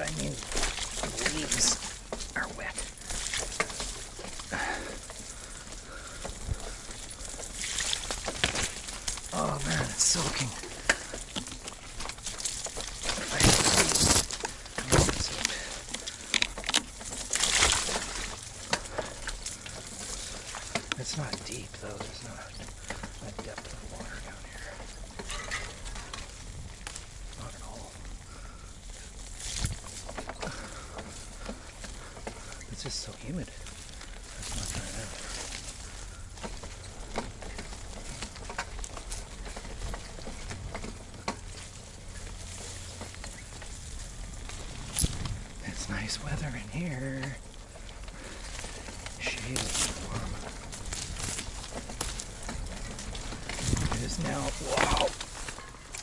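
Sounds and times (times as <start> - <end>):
crackles and knocks: 0.0 - 56.0
leaves and branches scraping bike: 0.0 - 56.0.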